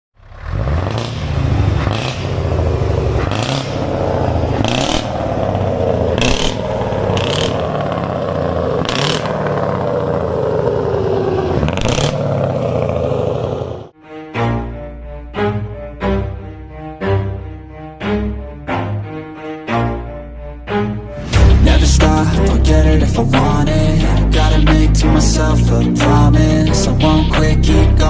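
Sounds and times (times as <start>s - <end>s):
truck engine revving: 0.2s - 14.0s, 15.5s - 28.0s.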